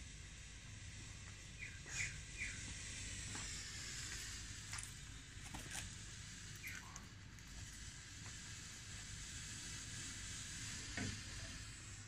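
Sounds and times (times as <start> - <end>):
smoke firework hissing: 0.0 - 12.0.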